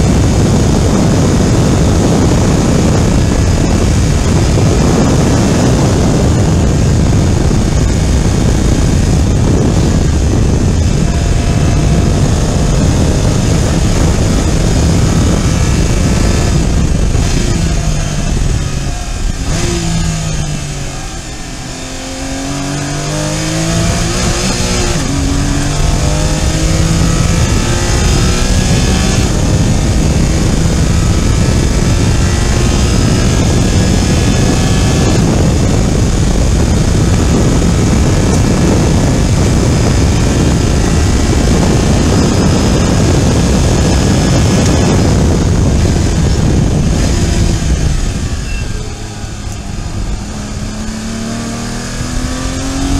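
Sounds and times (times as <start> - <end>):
car engine revving at full throttle: 0.0 - 52.9.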